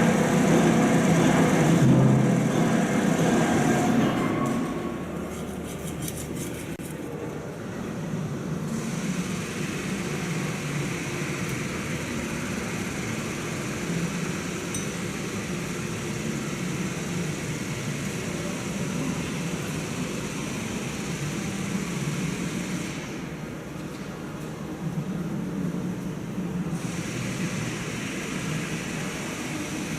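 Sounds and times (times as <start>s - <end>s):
train engine running: 0.0s - 6.8s, 8.0s - 29.9s.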